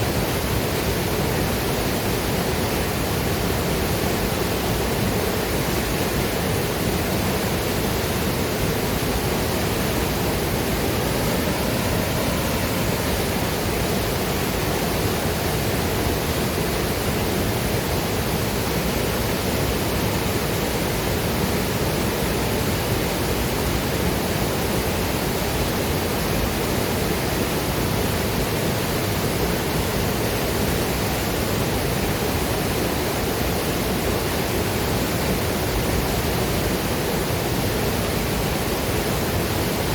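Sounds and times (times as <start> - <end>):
waterfall and river water rushing: 0.0 - 39.9.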